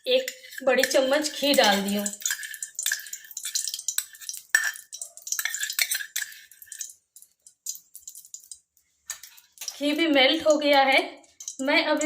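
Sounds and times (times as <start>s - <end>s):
ghee crackling in a pan: 0.0s - 12.0s
metal clicking on a pan: 0.0s - 12.0s.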